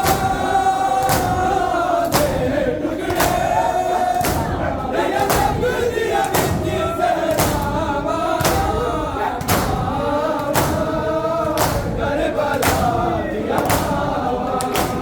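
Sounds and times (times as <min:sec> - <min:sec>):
men chanting in chorus: 0:00.0 - 0:15.0
rhythmic chest-beating thumps: 0:00.0 - 0:15.0.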